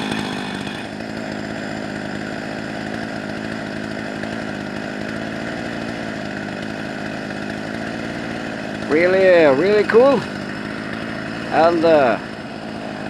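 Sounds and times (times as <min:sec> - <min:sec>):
chainsaw running at high revs: 0:00.0 - 0:13.0.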